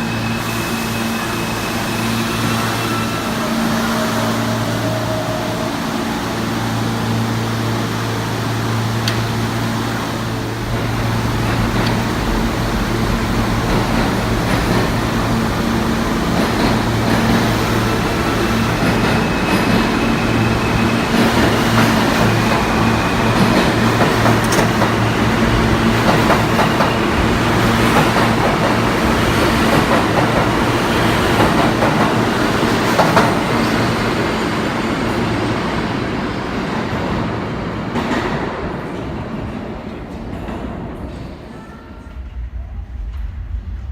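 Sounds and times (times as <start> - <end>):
rail noise: 0.0 - 43.9.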